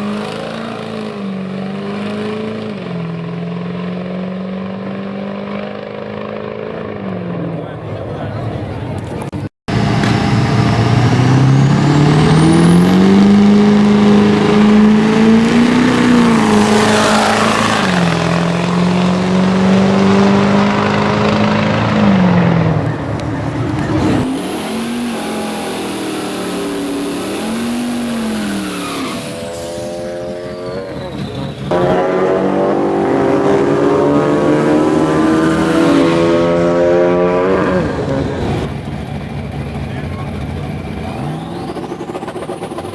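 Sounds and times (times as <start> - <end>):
drag racing engine at full throttle: 0.0 - 42.9.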